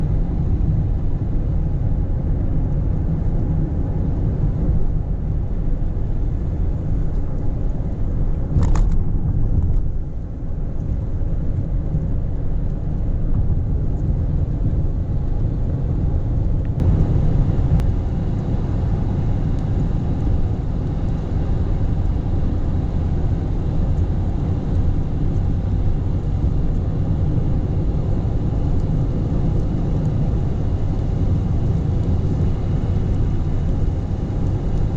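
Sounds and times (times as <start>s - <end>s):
car road rumble: 0.0s - 34.9s.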